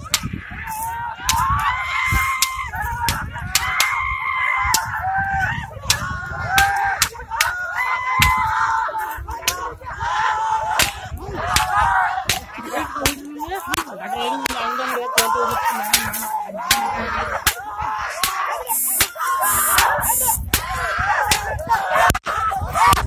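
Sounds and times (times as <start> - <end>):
crowd of men yelling and whooping: 0.0 - 23.0.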